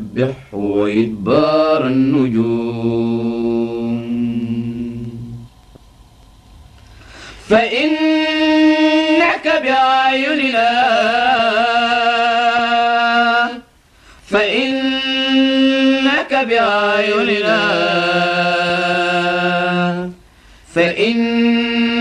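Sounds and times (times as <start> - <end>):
person chanting recitation: 0.0 - 5.5, 7.4 - 13.7, 14.3 - 22.0.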